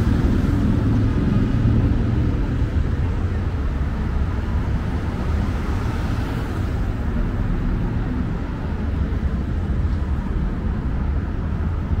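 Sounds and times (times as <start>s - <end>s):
car traffic passing: 0.0s - 12.0s.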